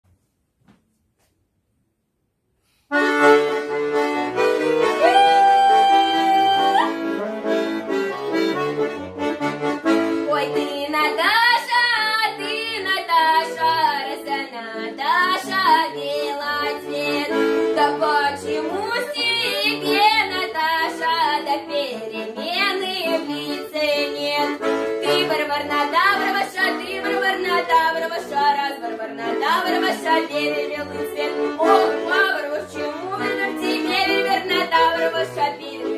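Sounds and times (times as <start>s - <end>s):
accordion folk tune: 2.7s - 35.9s.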